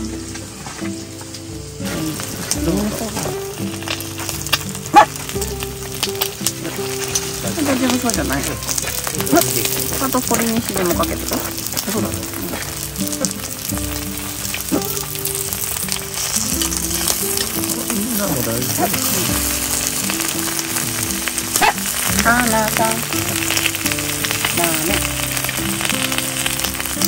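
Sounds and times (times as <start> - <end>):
food sizzling on a griddle pan: 0.0 - 27.0
soft background music: 0.0 - 27.0
tongs clicking: 3.7 - 27.0.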